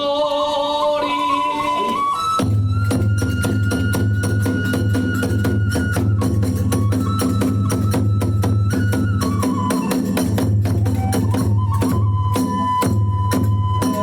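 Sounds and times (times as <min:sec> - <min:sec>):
bamboo flute high note: 0:01.0 - 0:14.0
drums and hand cymbals beat: 0:02.4 - 0:14.0.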